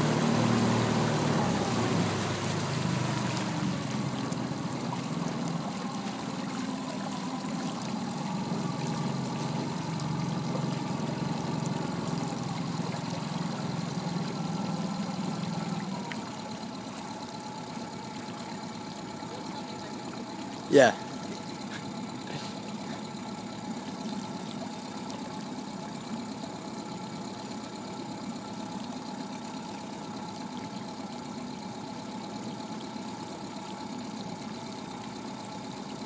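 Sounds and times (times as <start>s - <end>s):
light water noise: 0.0s - 36.0s
outboard motor running: 0.0s - 36.0s.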